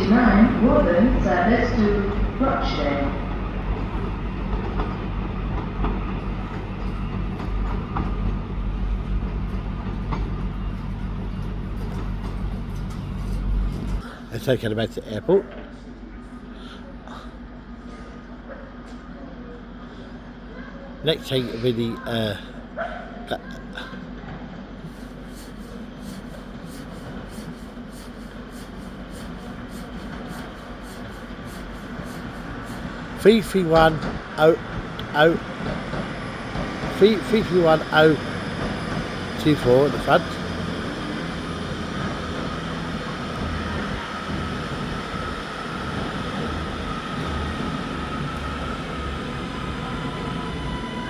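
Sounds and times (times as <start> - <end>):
train rumble: 0.0 - 19.1, 21.0 - 51.0.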